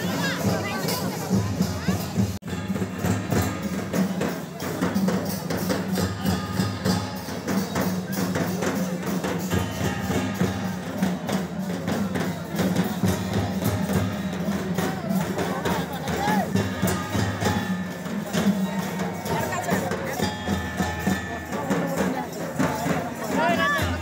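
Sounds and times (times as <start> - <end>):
barrel drums beating fast rhythm: 0.0 - 24.0
crowd noise: 0.0 - 24.0
percussion: 0.0 - 24.0.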